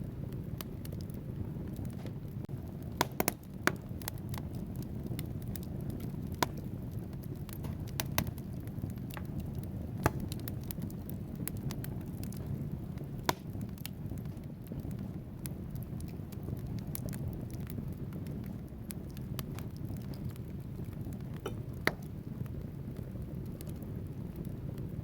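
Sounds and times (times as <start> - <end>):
rush of flames: 0.0 - 25.0
wood crackling and popping: 0.0 - 25.0.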